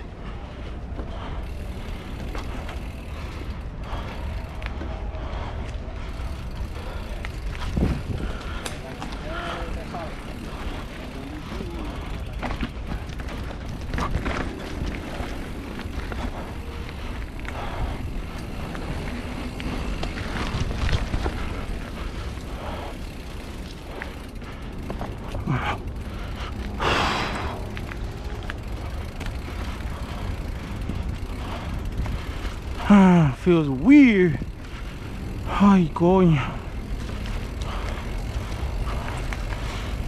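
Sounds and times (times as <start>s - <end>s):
bike tyres rolling over dirt: 0.0s - 40.0s.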